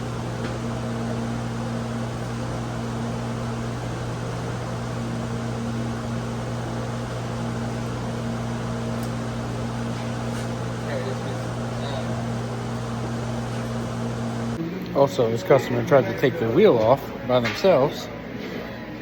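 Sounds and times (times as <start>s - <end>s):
rushing fan noise: 0.0s - 19.0s.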